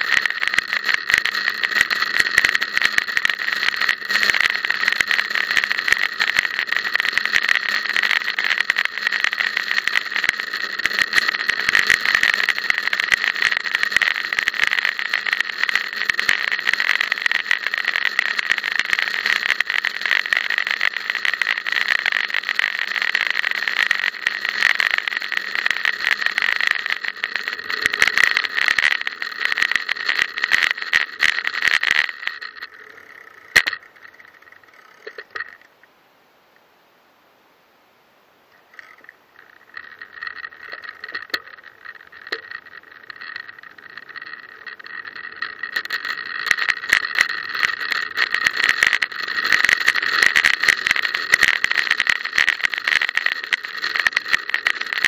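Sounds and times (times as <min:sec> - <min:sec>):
small clicks from bumps: 0:00.0 - 0:35.9, 0:38.5 - 0:55.0.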